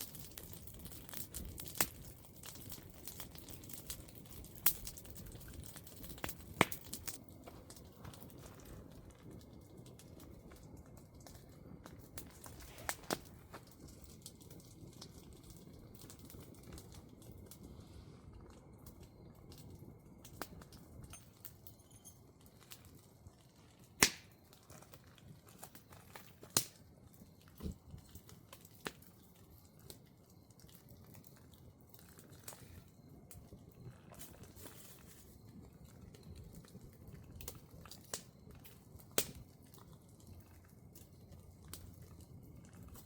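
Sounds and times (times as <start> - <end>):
small clicks and crackles: 0.0 - 43.0.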